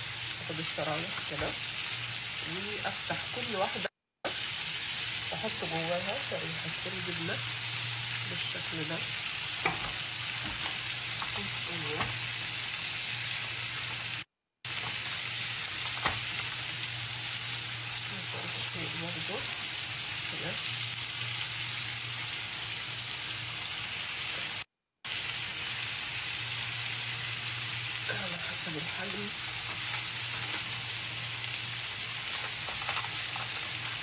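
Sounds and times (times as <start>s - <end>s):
chicken sizzling in oil: 0.0s - 34.0s.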